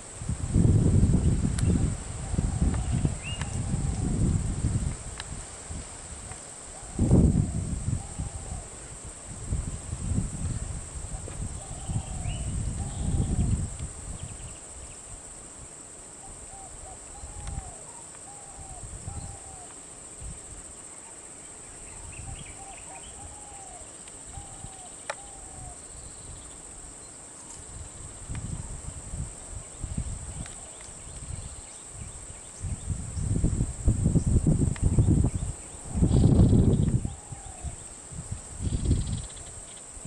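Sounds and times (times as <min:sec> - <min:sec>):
high insect drone: 0:00.0 - 0:40.0.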